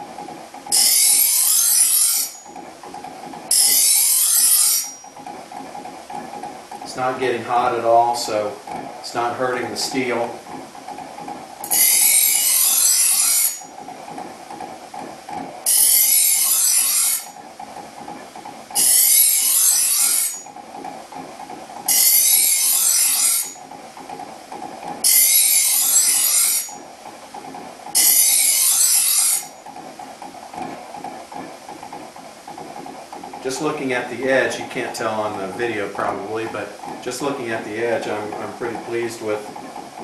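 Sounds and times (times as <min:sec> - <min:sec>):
grinder motor hum: 0:00.0 - 0:40.0.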